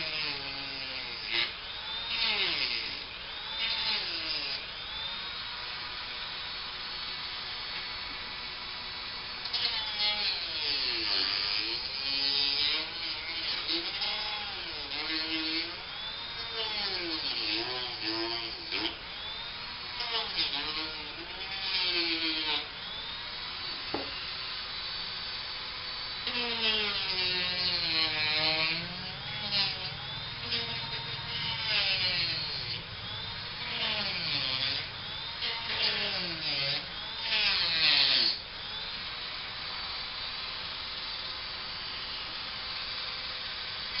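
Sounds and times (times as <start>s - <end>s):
rotary tool grinding fibreglass: 0.0s - 44.0s.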